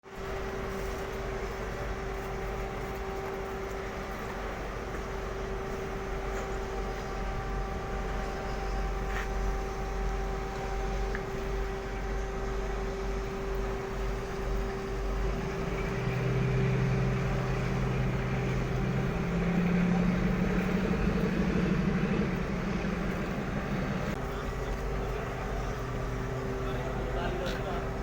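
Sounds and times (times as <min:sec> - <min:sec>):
diesel engine revving: 0:00.4 - 0:28.0.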